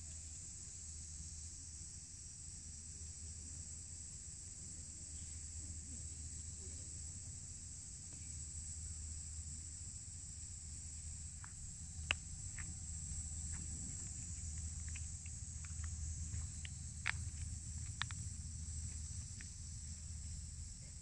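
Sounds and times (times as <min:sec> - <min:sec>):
high-pitched insect chorus: 0:00.0 - 0:21.0
low steady rumble: 0:00.0 - 0:21.0.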